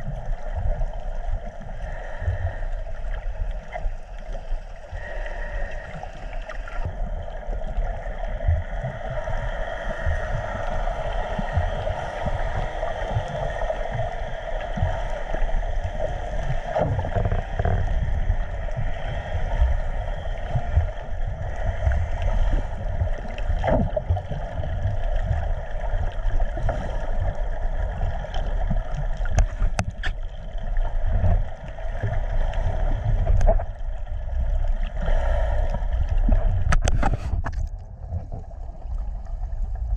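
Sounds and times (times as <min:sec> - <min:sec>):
faint steady hum: 0:00.0 - 0:39.9
muffled underwater rush: 0:00.0 - 0:39.9.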